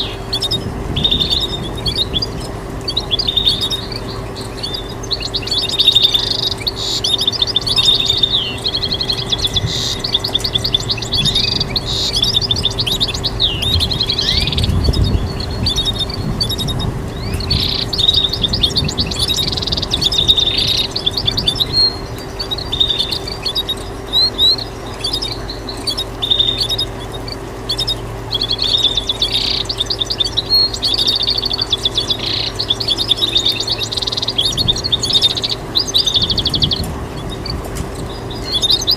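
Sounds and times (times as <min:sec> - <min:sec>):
bird singing trills: 0:00.0 - 0:38.9
steady low hum: 0:00.0 - 0:38.9.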